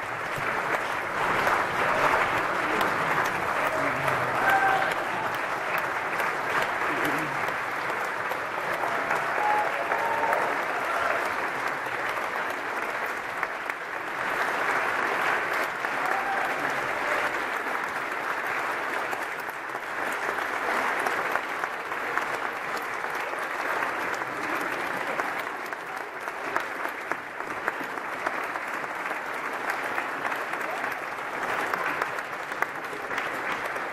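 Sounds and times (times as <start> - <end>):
audience applauding: 0.0 - 33.9.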